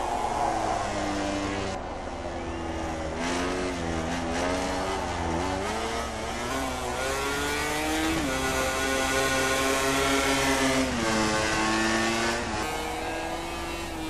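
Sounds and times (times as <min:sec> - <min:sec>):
racing motorcycle engine revving: 0:00.0 - 0:14.0.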